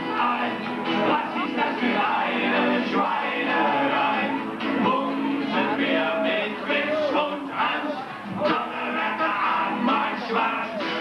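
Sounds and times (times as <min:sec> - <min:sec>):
live band music: 0:00.0 - 0:11.0
man singing: 0:00.0 - 0:11.0.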